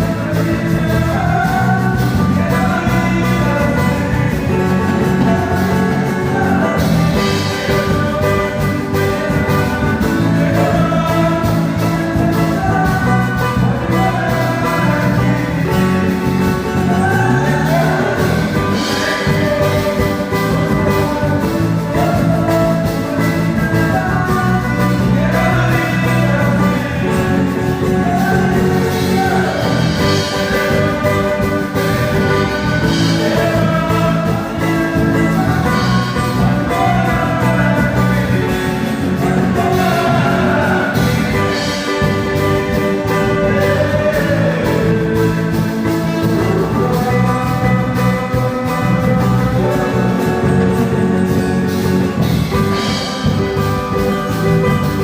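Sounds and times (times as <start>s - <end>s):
worship music with singing: 0.0s - 55.0s.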